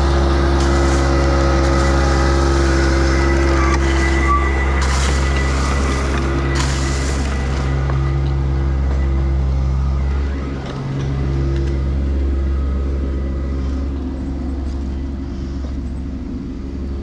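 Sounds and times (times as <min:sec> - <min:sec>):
heavy machinery engine humming: 0:00.0 - 0:17.0.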